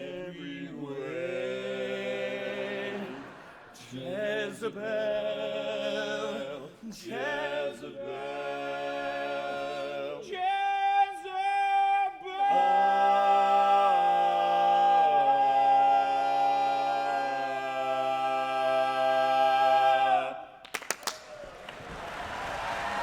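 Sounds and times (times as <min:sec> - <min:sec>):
barbershop quartet singing a cappella: 0:00.0 - 0:20.6.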